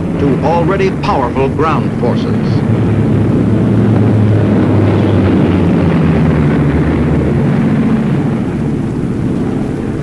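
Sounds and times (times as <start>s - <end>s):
aircraft engine droning: 0.0s - 10.0s.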